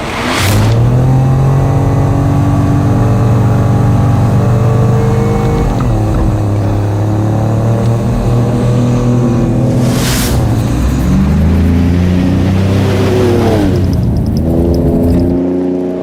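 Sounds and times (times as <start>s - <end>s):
engine running under load: 0.0s - 15.5s.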